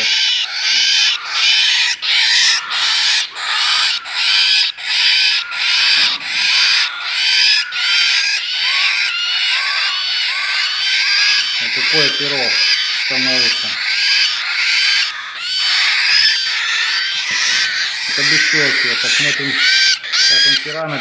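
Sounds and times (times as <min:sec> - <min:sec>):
bird chicks raspy calls: 0:00.0 - 0:21.0.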